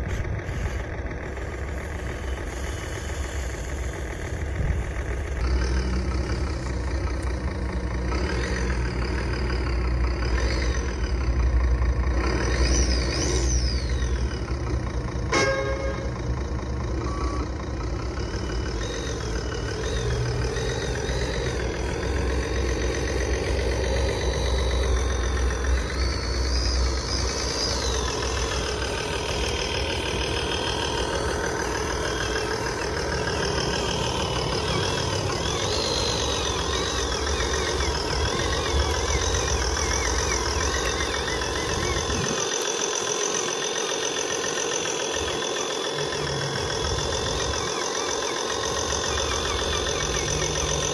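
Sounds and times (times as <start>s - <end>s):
high motor whine: 0.0s - 50.9s
model truck engine rumble: 0.0s - 50.9s.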